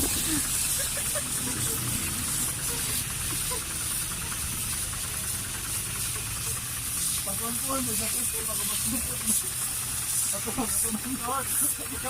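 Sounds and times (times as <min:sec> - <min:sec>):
pressure washer spraying water: 0:00.0 - 0:12.0
pump humming: 0:00.0 - 0:12.0.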